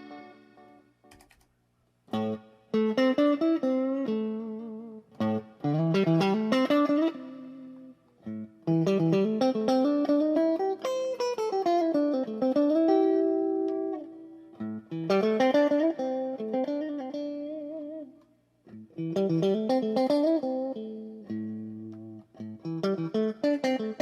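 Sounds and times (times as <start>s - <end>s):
electric guitar melodic runs: 0.0s - 1.2s, 2.1s - 24.0s.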